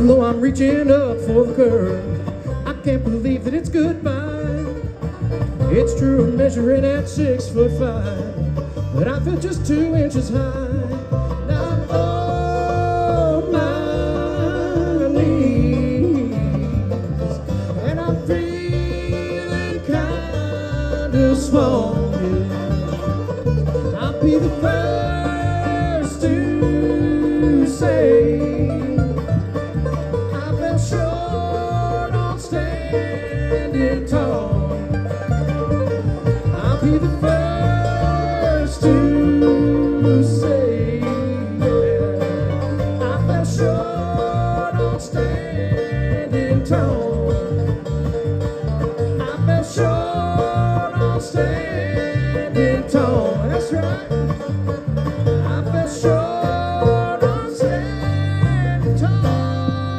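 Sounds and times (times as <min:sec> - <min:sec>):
acoustic guitar: 0:00.0 - 0:59.9
banjo: 0:00.0 - 0:59.9
electric bass: 0:00.0 - 0:59.9
mandolin: 0:00.0 - 0:59.9.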